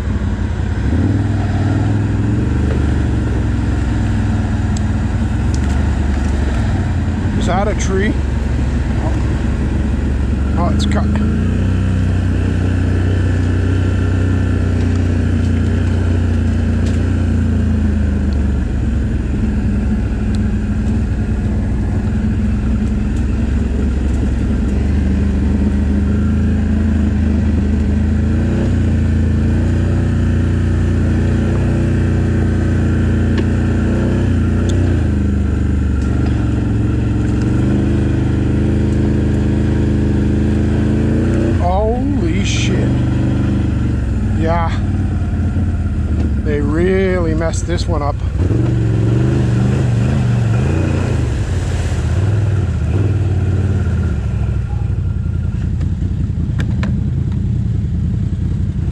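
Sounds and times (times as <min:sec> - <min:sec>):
atv engine running: 0:00.0 - 0:58.9.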